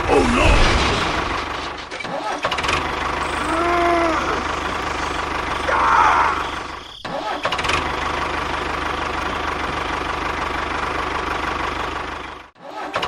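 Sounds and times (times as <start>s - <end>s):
small engine chugging: 1.1s - 12.5s.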